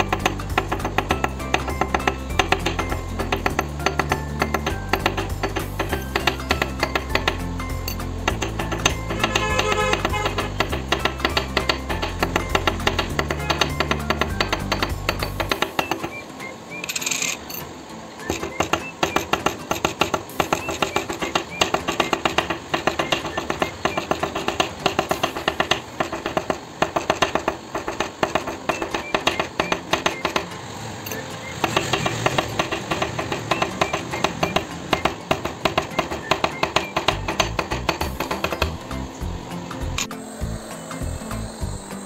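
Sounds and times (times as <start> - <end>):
small hammer tapping on metal: 0.0 - 17.6, 18.2 - 39.2
background music: 0.0 - 42.0.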